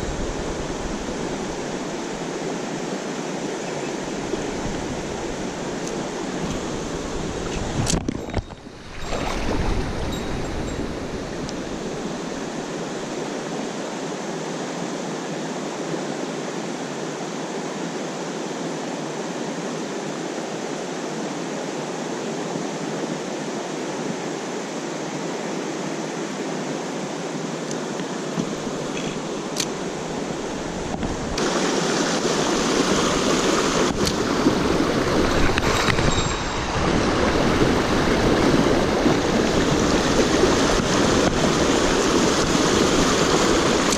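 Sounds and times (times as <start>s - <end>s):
stream water rushing over rocks: 0.0s - 43.9s.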